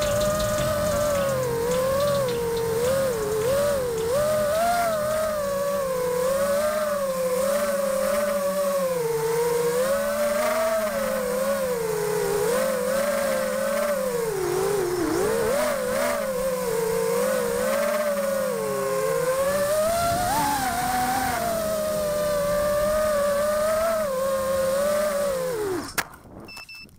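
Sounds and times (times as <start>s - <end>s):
quadcopter motors whining: 0.0s - 26.7s.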